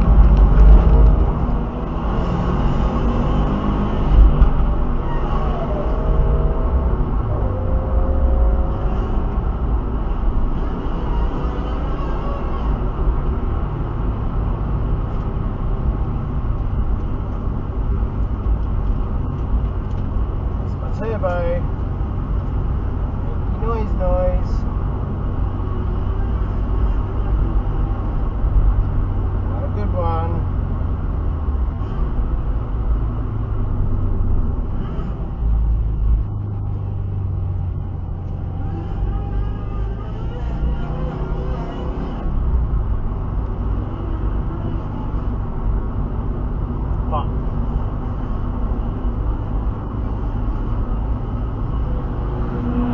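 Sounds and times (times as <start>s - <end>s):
car engine rumble: 0.0s - 52.9s
road noise: 0.0s - 52.9s.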